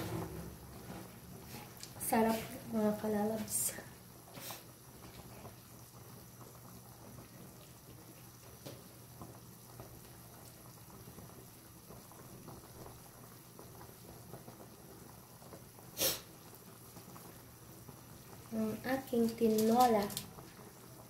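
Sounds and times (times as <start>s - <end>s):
broth bubbling at a boil: 0.1s - 21.0s.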